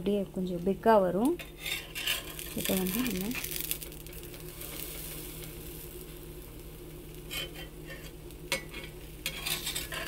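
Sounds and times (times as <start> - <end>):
batter sizzling in butter: 1.4 - 10.0.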